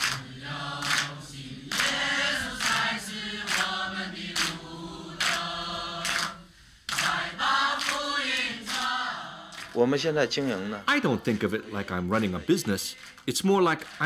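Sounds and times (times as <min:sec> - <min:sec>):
choir singing a hymn: 0:00.0 - 0:13.2.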